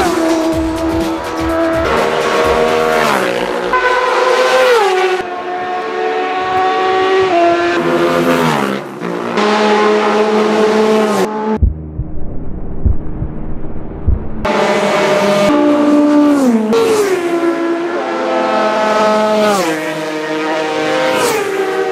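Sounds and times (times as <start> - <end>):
racing motorcycles passing: 0.0 - 11.6, 14.4 - 21.9.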